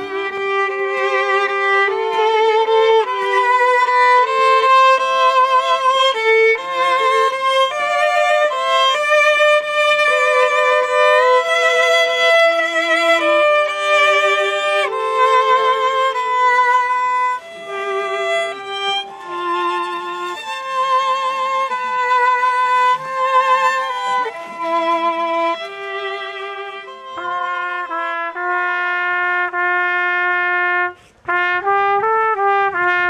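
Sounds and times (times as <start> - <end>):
violins playing slow melody: 0.0 - 33.0.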